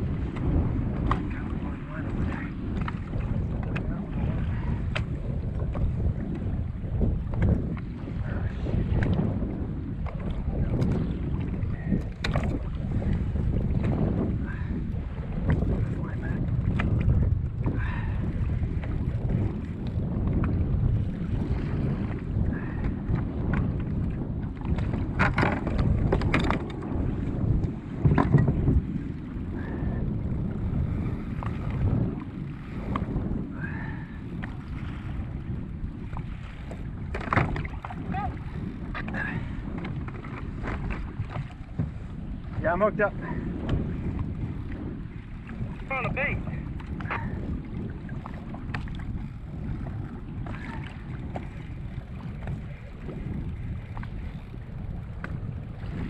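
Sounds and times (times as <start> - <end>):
waves lapping at a hull: 0.0 - 56.0
wind buffeting microphone: 0.0 - 56.0.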